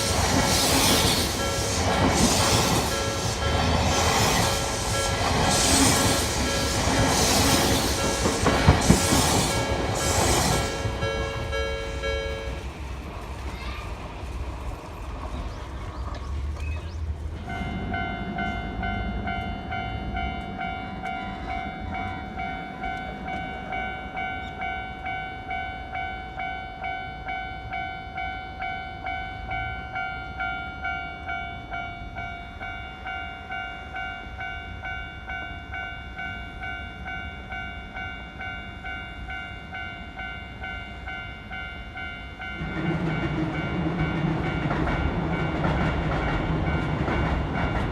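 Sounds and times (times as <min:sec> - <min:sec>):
level crossing warning bell: 0:01.3 - 0:06.8, 0:07.9 - 0:12.8, 0:17.4 - 0:47.9.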